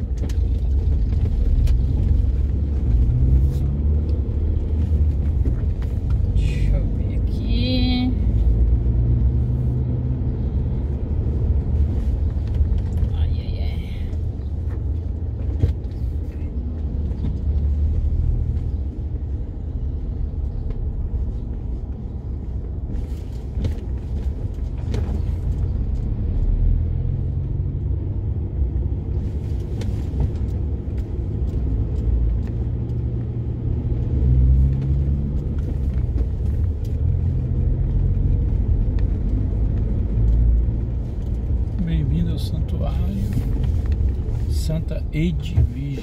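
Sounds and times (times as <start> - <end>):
car road and engine noise: 0.0 - 46.0.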